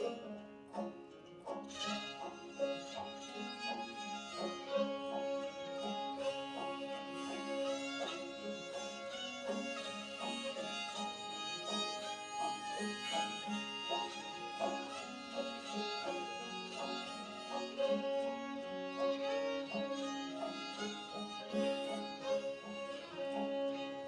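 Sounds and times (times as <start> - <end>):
fiddle melody: 0.0 - 24.0
strummed and plucked strings: 0.0 - 24.0.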